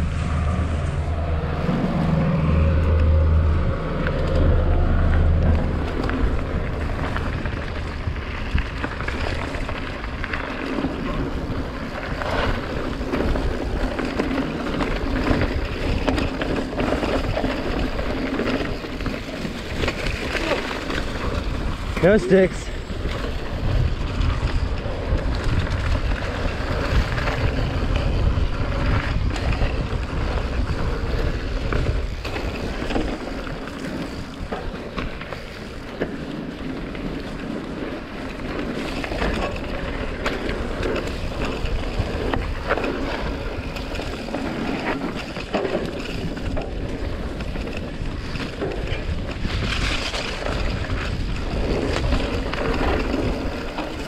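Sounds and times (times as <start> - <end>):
bike rattling and knocking: 0.0 - 54.0
bike tyres rolling on loose dirt: 0.0 - 54.0
wind rumbling on microphone: 0.0 - 54.0.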